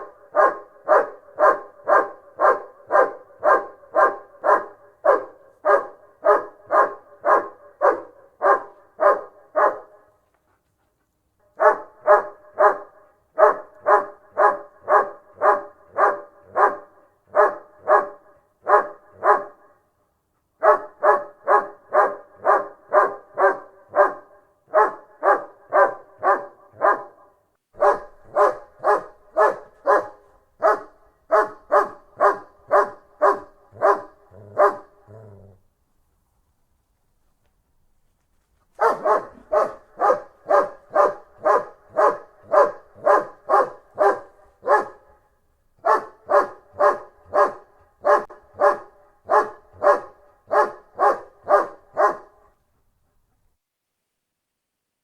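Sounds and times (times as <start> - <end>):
dog barking: 0.0 - 10.2, 11.4 - 19.9, 20.6 - 35.4, 38.8 - 52.6.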